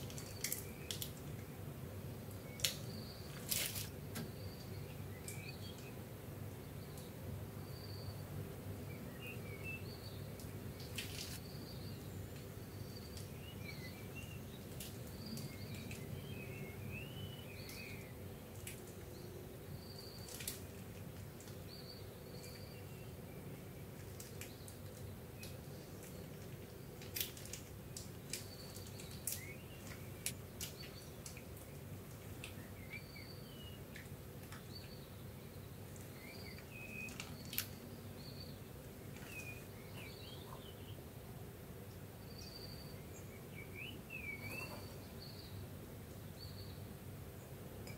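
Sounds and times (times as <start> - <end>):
birds chirping: 2.3 - 27.1, 27.9 - 47.9.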